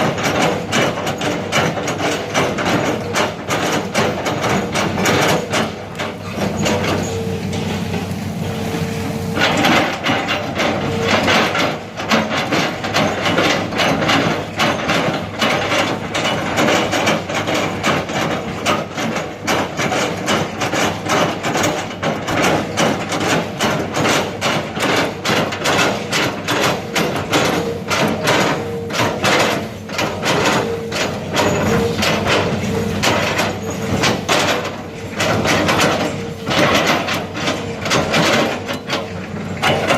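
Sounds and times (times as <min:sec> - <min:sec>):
knocking and clattering: 0:00.0 - 0:07.1, 0:09.4 - 0:39.9
diesel engine running: 0:00.0 - 0:39.9.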